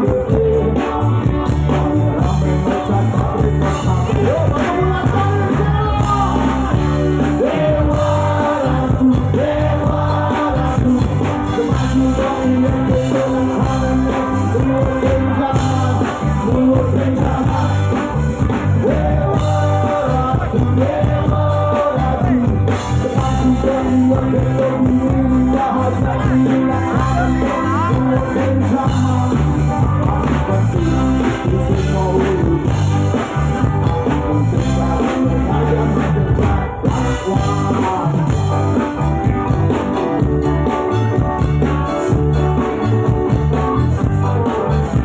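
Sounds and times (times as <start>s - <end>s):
live band playing: 0.0s - 45.0s
man singing: 0.0s - 45.0s.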